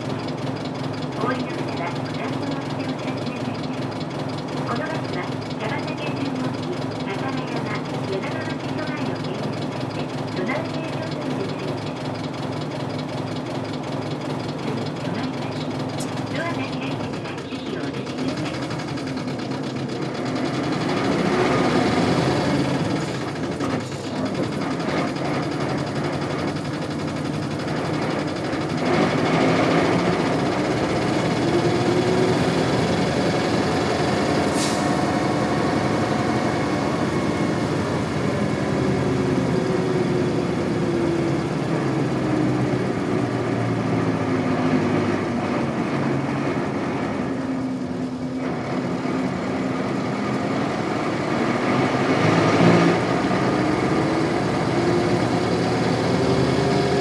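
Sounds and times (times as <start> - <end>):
diesel bus engine: 0.0 - 57.0.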